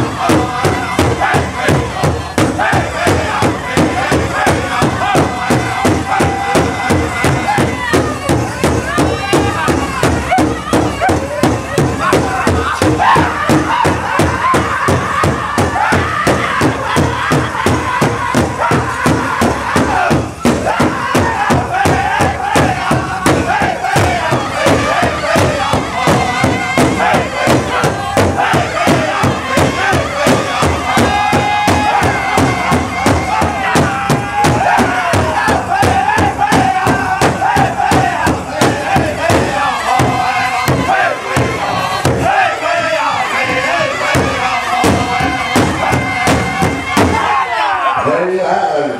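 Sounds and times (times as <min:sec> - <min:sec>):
large drum beaten with sticks: 0:00.0 - 0:47.5
crowd: 0:00.0 - 0:48.9
singers chanting high-pitched: 0:00.0 - 0:48.9.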